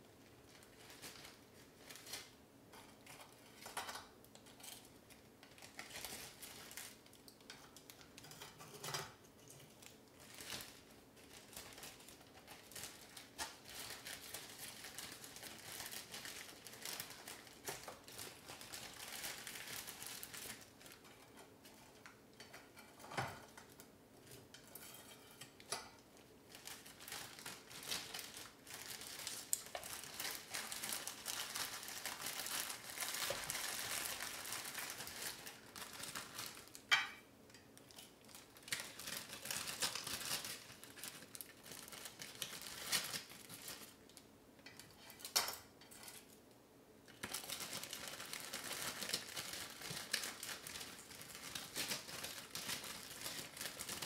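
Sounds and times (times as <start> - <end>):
wrapping crinkling and rustling: 0.0 - 46.4, 47.1 - 54.0.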